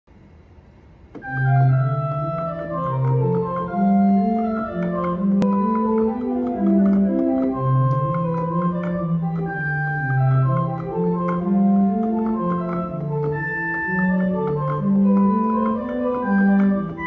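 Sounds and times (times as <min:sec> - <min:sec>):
organ playing a slow hymn: 0:01.2 - 0:17.0.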